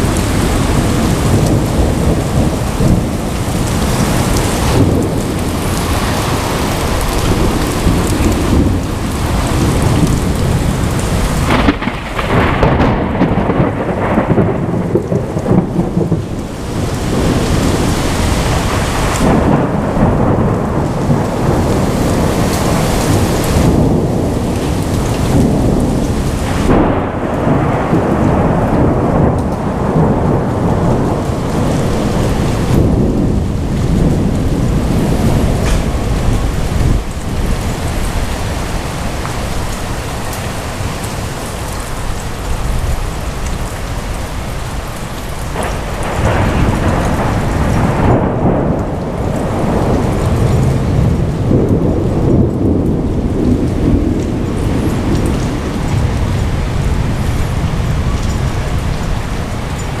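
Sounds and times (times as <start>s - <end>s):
thunder crack: 0.0s - 39.2s, 45.4s - 59.3s
heavy rain pouring: 0.0s - 60.0s
thunder rumbling: 0.0s - 60.0s.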